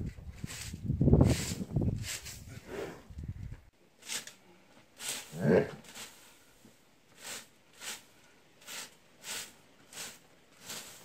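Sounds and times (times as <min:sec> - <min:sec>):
broom sweeping hay on stone: 0:00.3 - 0:02.9, 0:03.9 - 0:11.0.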